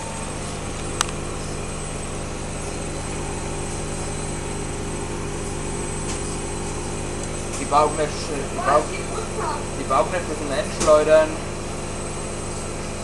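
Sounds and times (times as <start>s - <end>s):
washing machine motor drone: 0.0s - 13.0s.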